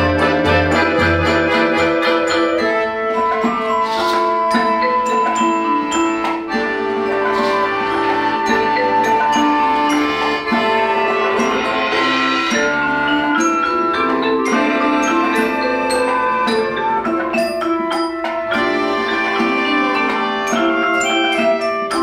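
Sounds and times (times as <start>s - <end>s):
chamber ensemble playing folk music: 0.0s - 22.0s
marimba notes: 0.0s - 22.0s.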